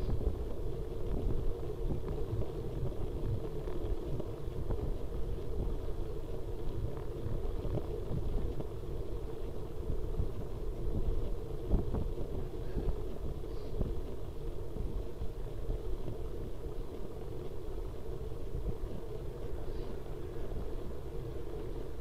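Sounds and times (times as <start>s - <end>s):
bicycle road rumble: 0.0s - 22.0s
constant hum: 0.0s - 22.0s.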